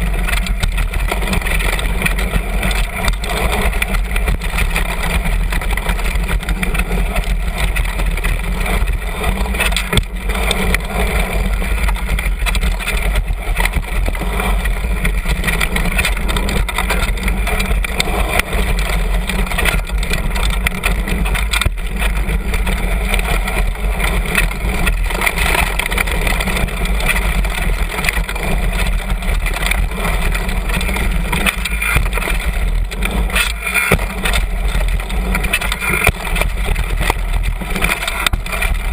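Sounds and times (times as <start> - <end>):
bike knocking on trail hits: 0.0 - 38.9
mountain bike rumbling over dirt: 0.0 - 38.9.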